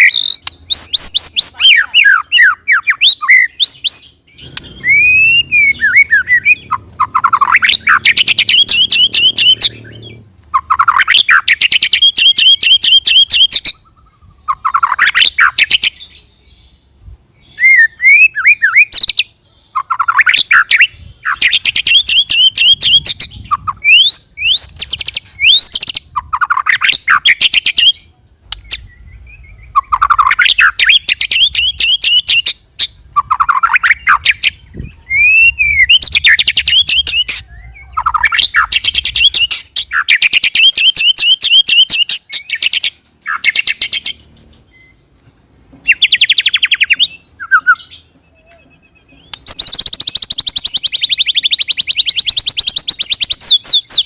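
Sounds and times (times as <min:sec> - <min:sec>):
bird singing fast trills and whistles: 0:00.0 - 0:16.4, 0:17.4 - 0:45.1, 0:45.8 - 0:54.0.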